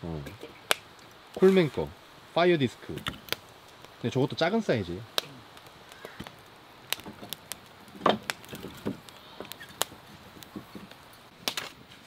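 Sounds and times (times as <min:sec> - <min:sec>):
wood fire crackling: 0:00.0 - 0:12.0
sharp pops from burning logs: 0:00.2 - 0:12.0.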